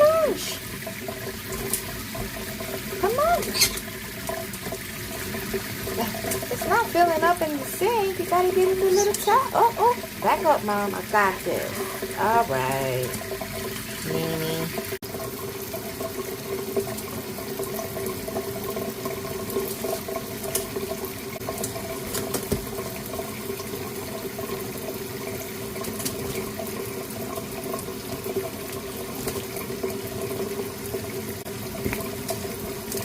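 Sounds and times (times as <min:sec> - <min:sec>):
tap water pouring into sink: 0:00.0 - 0:33.0.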